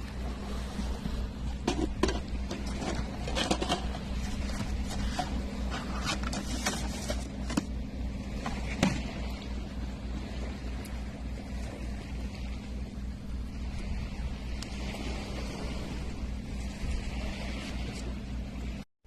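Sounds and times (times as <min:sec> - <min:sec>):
low engine drone: 0:00.0 - 0:18.8.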